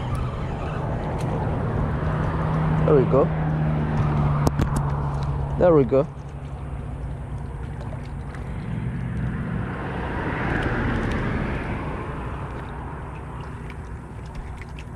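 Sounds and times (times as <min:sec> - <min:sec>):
motor-like drone: 0:00.0 - 0:14.9.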